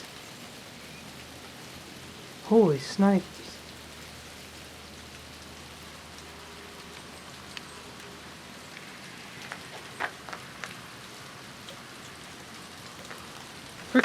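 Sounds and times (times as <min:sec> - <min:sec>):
hiss of falling wet snow: 0:00.0 - 0:14.0
snowflakes ticking: 0:00.0 - 0:14.0.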